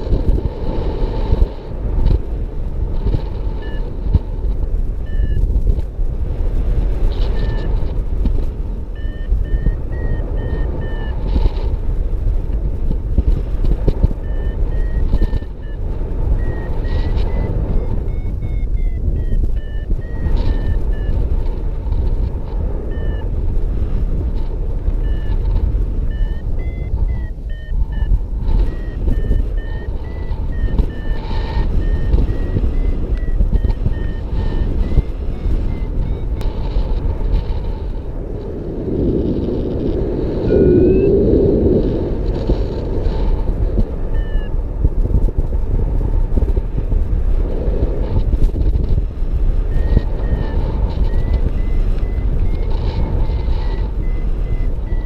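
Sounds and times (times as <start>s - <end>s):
variometer beeping: 0.0s - 38.1s, 40.4s - 46.4s, 48.0s - 55.0s
wind rush on microphone: 0.0s - 55.0s.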